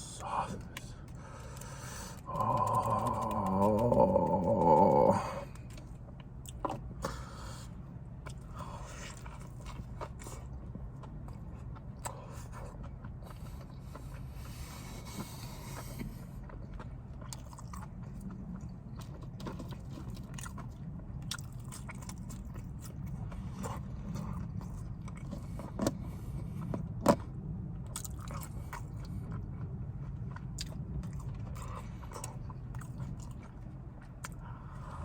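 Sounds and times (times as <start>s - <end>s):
steady low hum: 0.0s - 35.0s
wet chewing with crunches: 0.0s - 35.0s.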